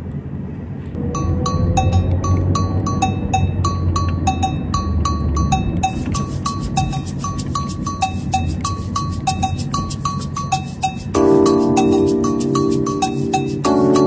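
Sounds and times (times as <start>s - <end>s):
bell-like pings: 1.0s - 14.0s.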